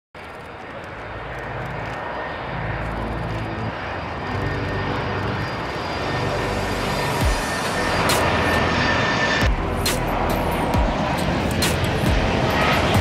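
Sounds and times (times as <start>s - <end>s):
jet engines roaring: 0.2s - 13.0s.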